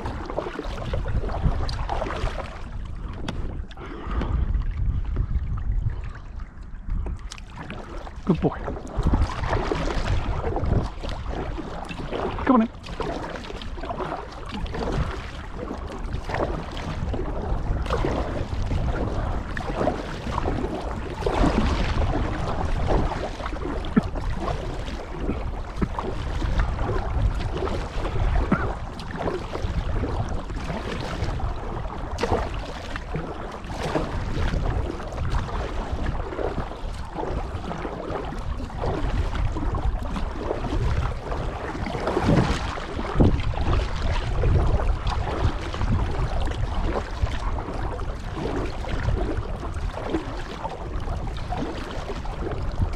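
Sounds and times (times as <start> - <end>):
paddle splashing in water: 0.0 - 52.9
wind buffeting microphone: 0.0 - 52.9.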